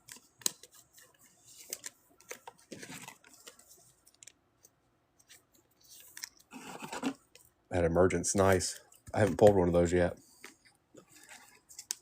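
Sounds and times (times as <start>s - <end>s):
trading cards clicking and rustling: 0.0s - 7.5s, 8.3s - 12.0s.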